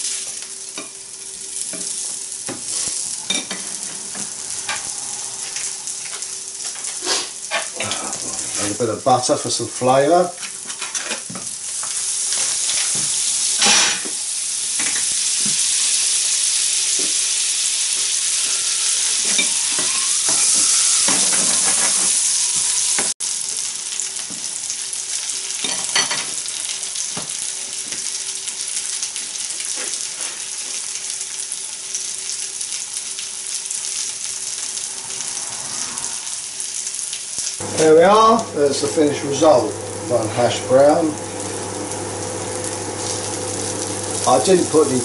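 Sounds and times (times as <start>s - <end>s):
potatoes sizzling in butter: 0.0s - 45.0s.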